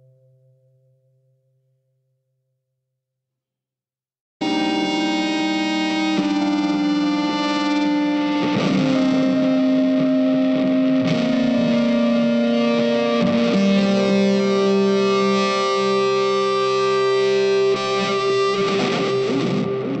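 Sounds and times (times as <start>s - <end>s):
guitar with effects holding notes: 0.0s - 1.6s, 4.4s - 20.0s.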